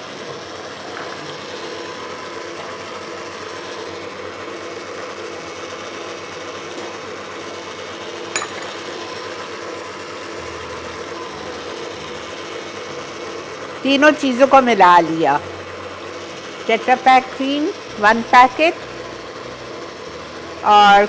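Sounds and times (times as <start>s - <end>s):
stand mixer whipping cream: 0.0s - 21.0s.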